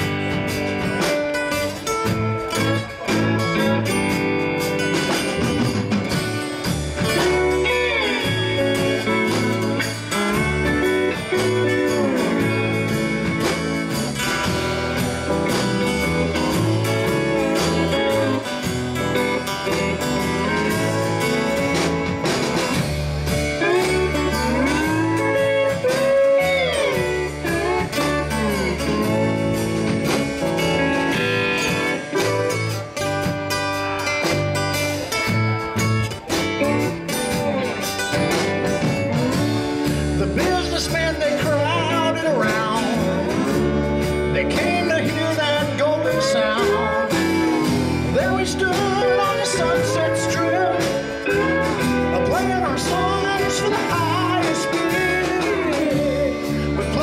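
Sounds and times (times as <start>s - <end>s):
bass guitar: 0.0s - 57.0s
drums: 0.0s - 57.0s
electric guitar lead with bent notes: 0.0s - 57.0s.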